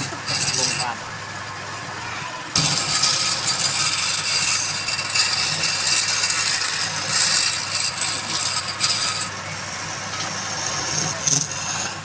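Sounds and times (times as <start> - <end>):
lathe tool scraping wood: 0.0 - 12.0.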